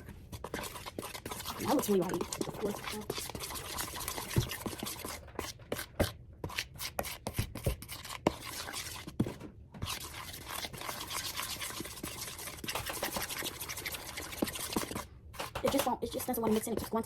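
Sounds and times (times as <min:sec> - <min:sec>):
spoon stirring dough in bowl: 0:00.0 - 0:17.0.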